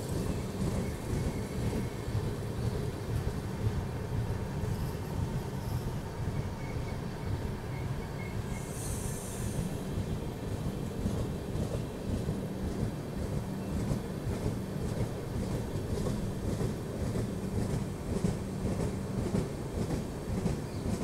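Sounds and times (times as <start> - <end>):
train coaches rumbling: 0.0 - 21.0.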